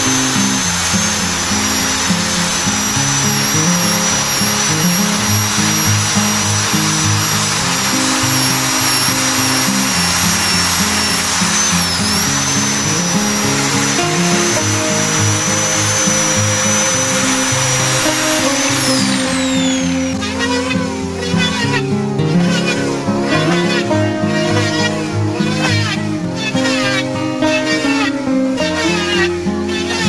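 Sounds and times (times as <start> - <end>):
power tool motor whining: 0.0 - 30.0.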